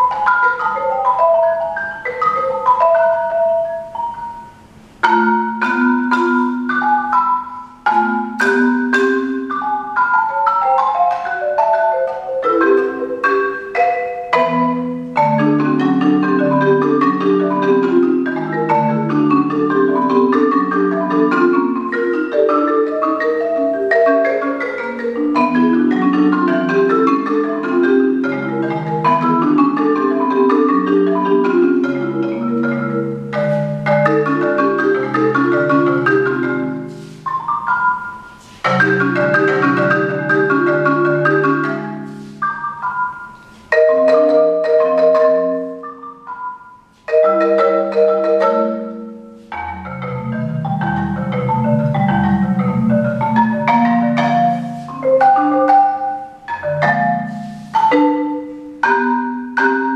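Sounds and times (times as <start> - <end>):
marimba played with mallets: 0.0 - 59.9.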